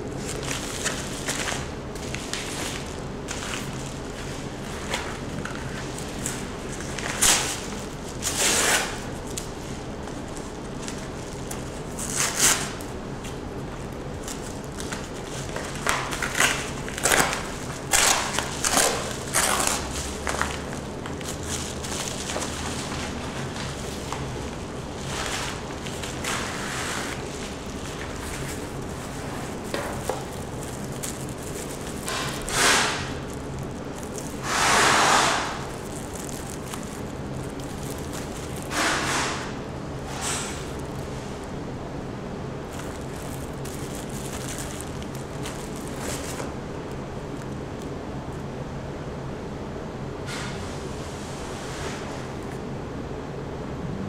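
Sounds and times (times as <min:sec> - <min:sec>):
low steady hum: 0:00.0 - 0:54.0
paper envelope crinkling: 0:00.1 - 0:41.5, 0:42.6 - 0:48.4.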